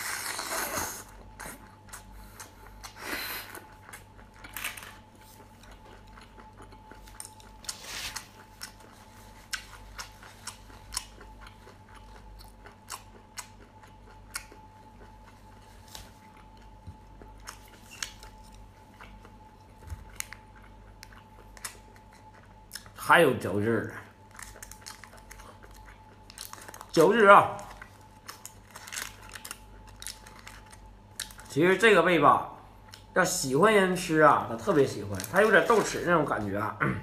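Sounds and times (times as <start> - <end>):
person chewing shellfish: 0.0 - 23.0, 24.1 - 27.0, 27.6 - 31.6, 32.8 - 33.2
faint steady hum: 0.0 - 37.0.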